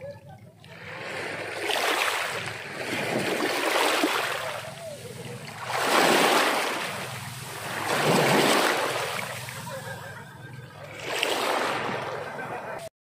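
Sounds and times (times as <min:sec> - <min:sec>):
small sea waves breaking: 0:00.6 - 0:12.8.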